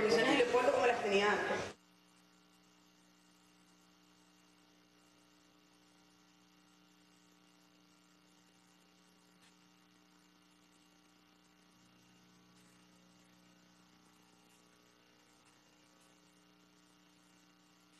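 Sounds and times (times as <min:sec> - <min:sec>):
faint electrical hum: 0:00.0 - 0:17.9.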